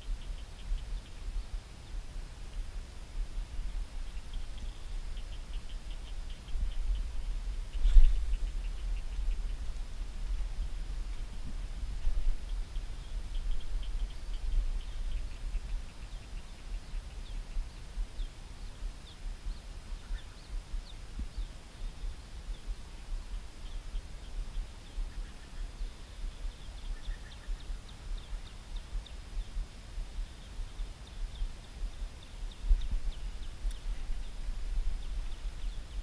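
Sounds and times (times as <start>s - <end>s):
wind buffeting microphone: 0.0s - 23.5s, 26.6s - 36.0s
small birds chirping: 0.0s - 36.0s.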